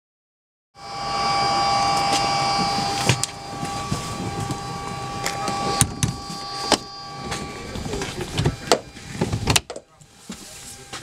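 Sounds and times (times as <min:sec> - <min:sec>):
aircraft machinery whine: 0:00.8 - 0:11.0.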